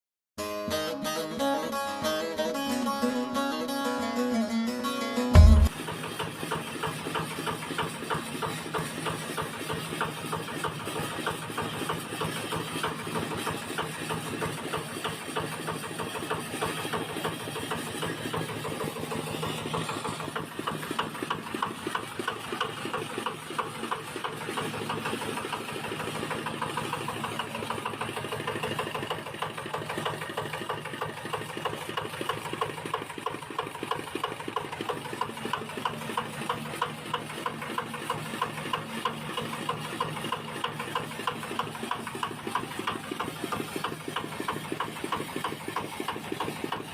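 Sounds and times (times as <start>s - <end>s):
diesel engine clattering: 5.4s - 46.9s.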